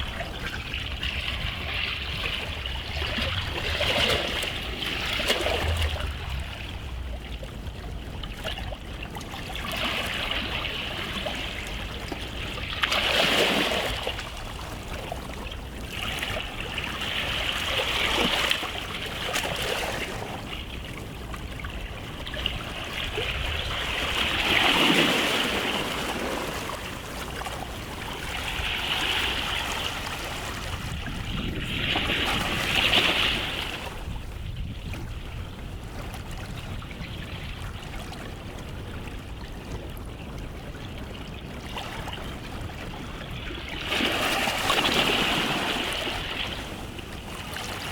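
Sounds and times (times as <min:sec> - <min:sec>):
small waves washing onto beach: 0:00.0 - 0:47.9.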